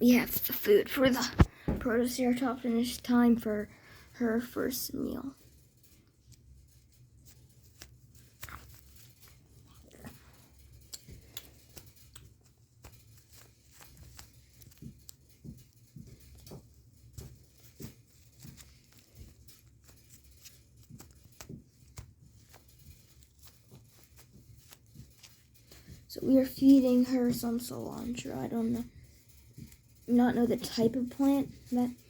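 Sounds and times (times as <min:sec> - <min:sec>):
small taps and rustles: 0:00.1 - 0:32.0.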